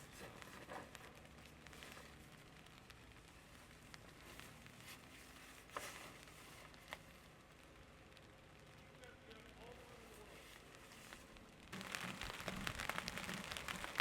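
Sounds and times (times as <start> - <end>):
raindrops tapping: 0.0 - 14.0
soft hiss: 0.0 - 14.0.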